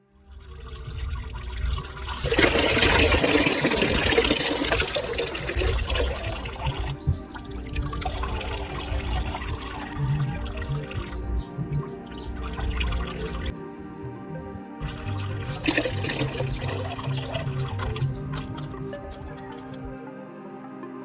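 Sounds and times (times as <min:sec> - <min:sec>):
water gushing from tap: 0:00.4 - 0:13.5, 0:14.8 - 0:19.8.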